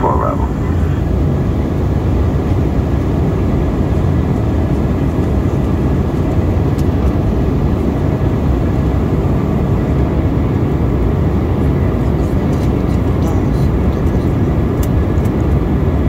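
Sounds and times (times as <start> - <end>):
jet airliner cabin hum: 0.0 - 16.0.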